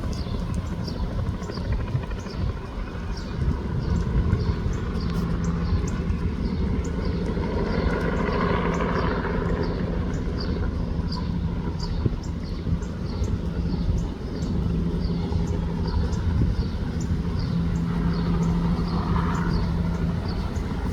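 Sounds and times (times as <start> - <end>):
helicopter rotor and turbine: 0.0 - 20.9.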